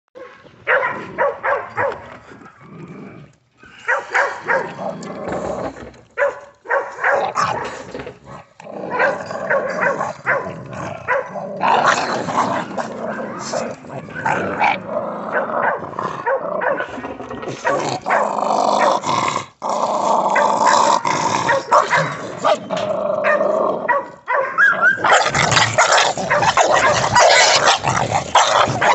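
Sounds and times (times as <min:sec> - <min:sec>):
dogs barking and whining: 0:00.2 - 0:02.6, 0:03.7 - 0:19.0, 0:20.3 - 0:28.9.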